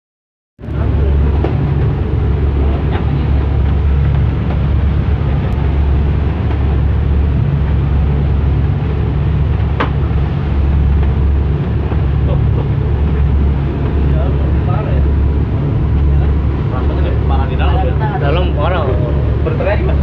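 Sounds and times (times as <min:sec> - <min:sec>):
boat engine droning: 0:00.6 - 0:20.0
churning wake rushing: 0:00.6 - 0:20.0
wind: 0:00.6 - 0:20.0.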